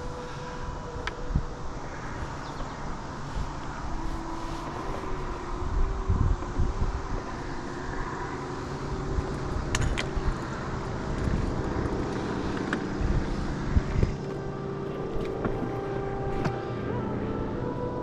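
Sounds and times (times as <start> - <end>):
engine-like hum: 0.0 - 18.0.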